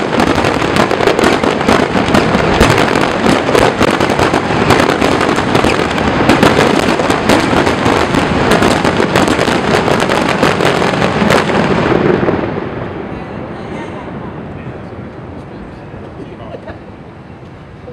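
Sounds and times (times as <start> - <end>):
fireworks bangs and crackling: 0.0 - 17.9.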